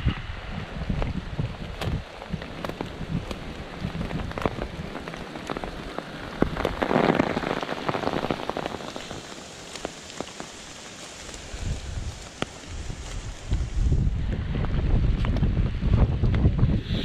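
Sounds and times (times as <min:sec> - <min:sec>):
rustling noise: 0:00.0 - 0:15.5
rain on dead leaves: 0:00.0 - 0:16.4.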